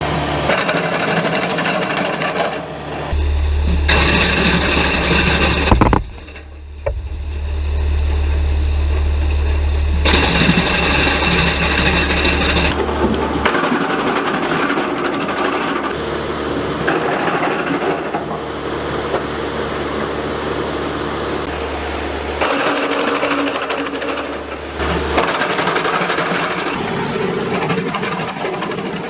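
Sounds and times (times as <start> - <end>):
wood chipper clattering: 0.0 - 29.0.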